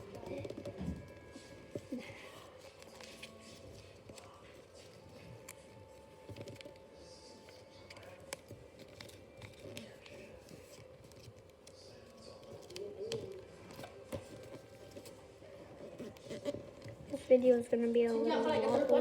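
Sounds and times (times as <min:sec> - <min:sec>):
paper rustling: 0:00.0 - 0:17.5.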